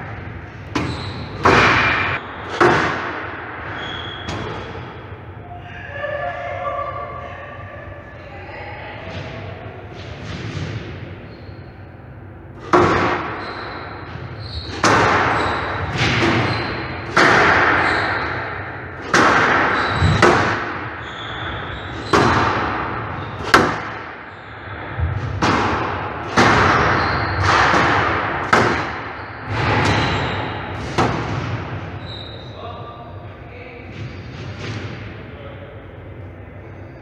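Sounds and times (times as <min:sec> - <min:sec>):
squash ball hits echoing: 0:00.0 - 0:05.3, 0:09.0 - 0:32.4, 0:33.9 - 0:35.3.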